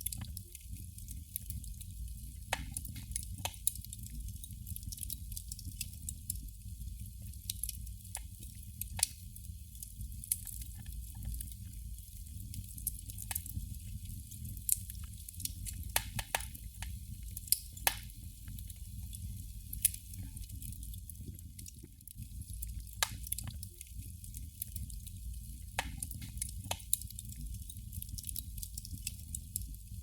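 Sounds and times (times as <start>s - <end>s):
candle flame crackling: 0.0s - 30.0s.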